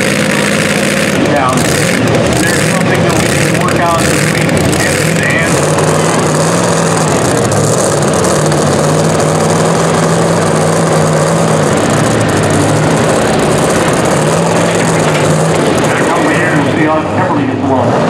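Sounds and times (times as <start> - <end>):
supercharged engine idling: 0.0 - 18.0.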